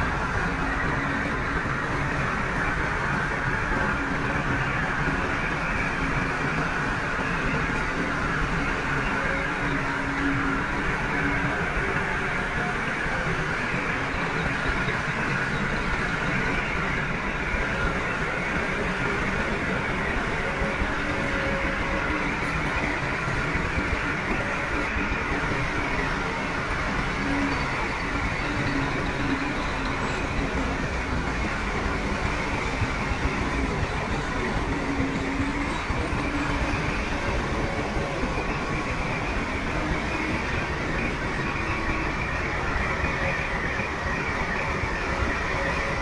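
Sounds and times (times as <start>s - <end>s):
faint machinery whine: 0.0s - 46.0s.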